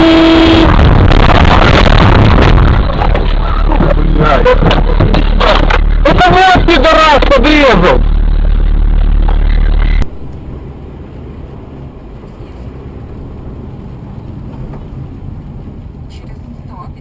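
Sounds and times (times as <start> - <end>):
loud low rumble: 0.0 - 15.7
car engine and road noise: 0.0 - 17.0.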